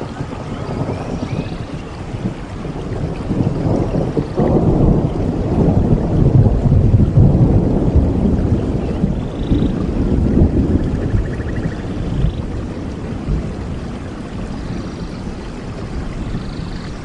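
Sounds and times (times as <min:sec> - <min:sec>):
rain: 0:00.0 - 0:17.0
rolling thunder: 0:00.0 - 0:17.0.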